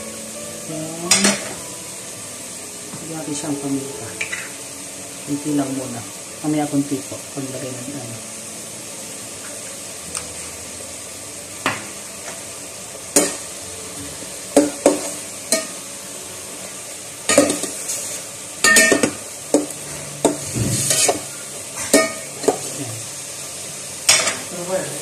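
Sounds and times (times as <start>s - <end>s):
chicken sizzling in a pot: 0.0s - 25.0s.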